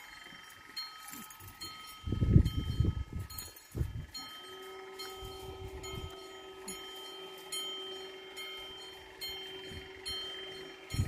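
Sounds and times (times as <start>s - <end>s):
barrier motors humming: 0.0s - 11.0s
level-crossing warning bell ringing: 0.0s - 11.0s.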